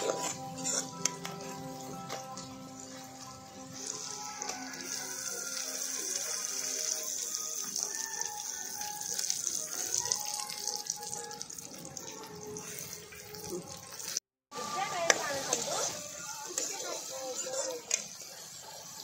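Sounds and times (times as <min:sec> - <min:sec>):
onions and tomatoes sizzling in oil: 0:00.0 - 0:11.3, 0:13.6 - 0:19.0.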